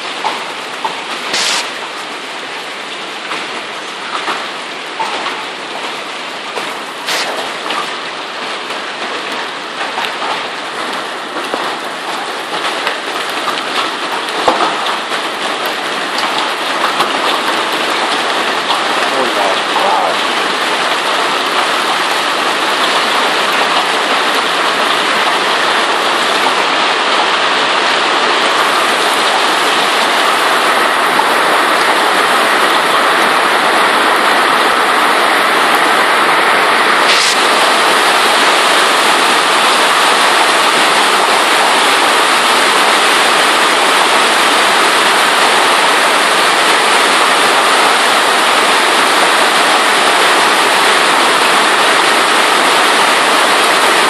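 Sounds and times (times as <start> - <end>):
hail pelting: 0.0 - 54.0
heavy rain: 0.0 - 54.0.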